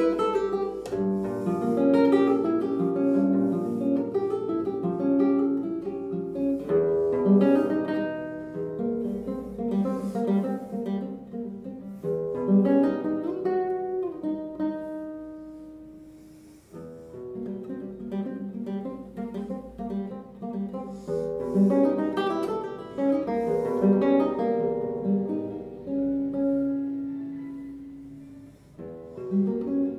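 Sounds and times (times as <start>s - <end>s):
nylon-string guitar fingerpicking: 0.0s - 29.9s.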